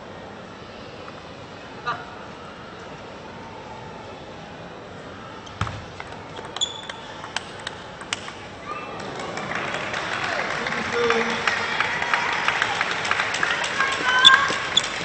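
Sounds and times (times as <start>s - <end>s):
crowd noise: 0.0s - 15.0s.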